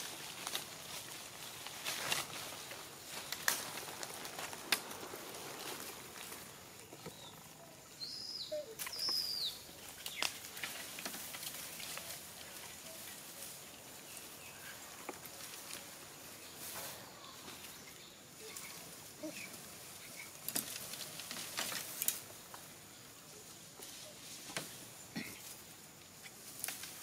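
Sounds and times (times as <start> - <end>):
dry leaves crackling and rustling: 0.0 - 27.0.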